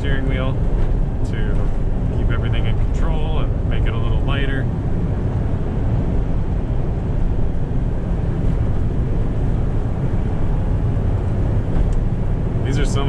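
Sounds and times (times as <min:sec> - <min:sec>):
road and tyre noise: 0:00.0 - 0:13.0
truck engine drone: 0:00.0 - 0:13.0.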